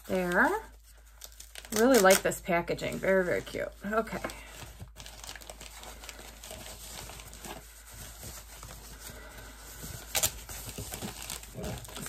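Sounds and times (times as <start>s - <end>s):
tissue paper rustling and crinkling: 0.0s - 12.0s.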